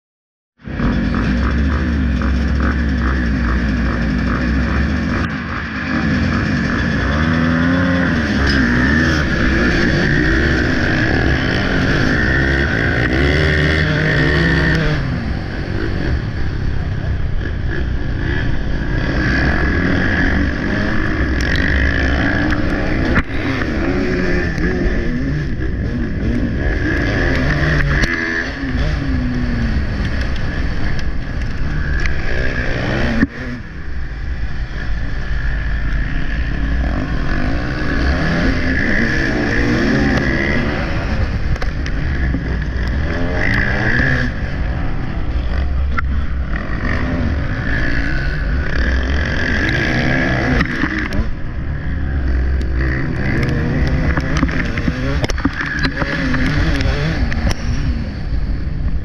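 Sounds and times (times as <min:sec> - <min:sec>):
motocross bike engine revving: 0:00.6 - 0:59.0.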